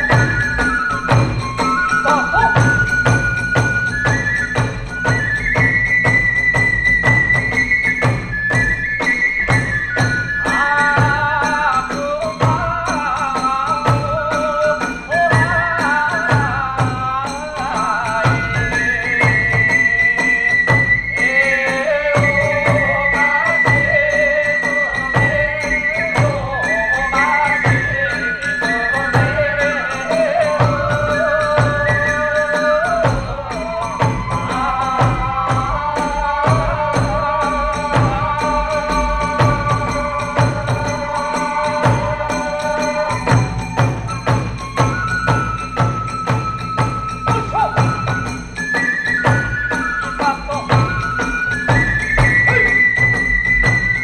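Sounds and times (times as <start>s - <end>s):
bamboo flute melody: 0.0s - 54.0s
drum strokes: 0.0s - 54.0s.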